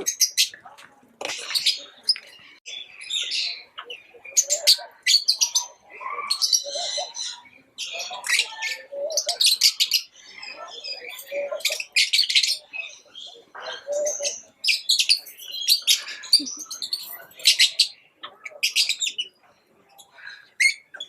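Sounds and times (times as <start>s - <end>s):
lovebirds chirping: 0.0s - 21.0s.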